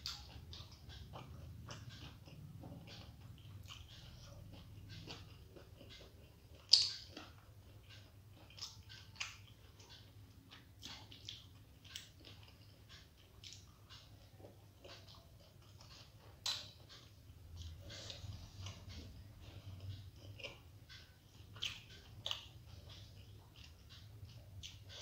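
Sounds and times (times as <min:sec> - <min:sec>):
person chewing: 0:00.0 - 0:25.0.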